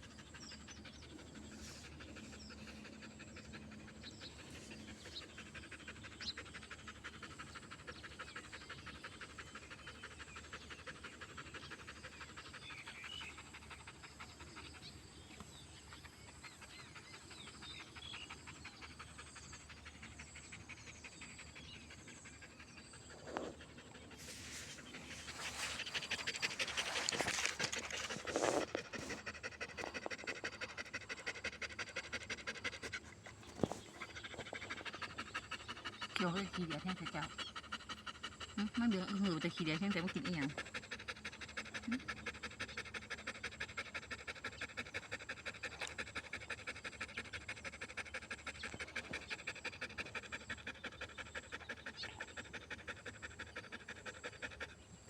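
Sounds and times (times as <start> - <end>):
dog panting: 0.0 - 55.0.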